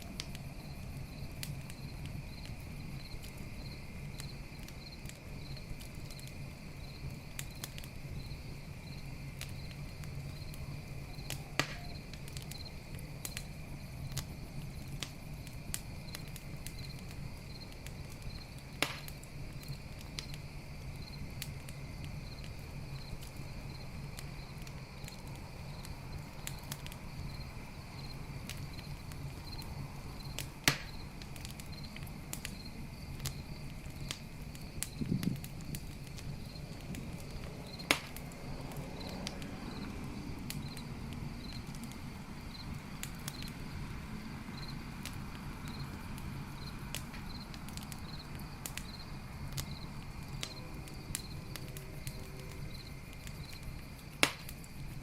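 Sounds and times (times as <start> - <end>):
burning wood snapping: 0.0 - 55.0
campfire crackling: 0.0 - 55.0
insects chirring: 0.0 - 55.0
pulsing insect chirp: 0.0 - 55.0.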